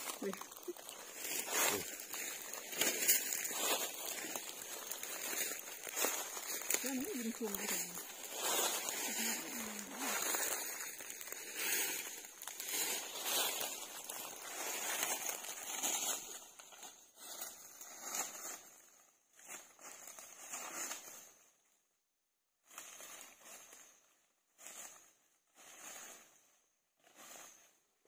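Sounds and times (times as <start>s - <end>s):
footsteps crunching through dry leaves: 0.0s - 21.5s, 22.6s - 27.9s.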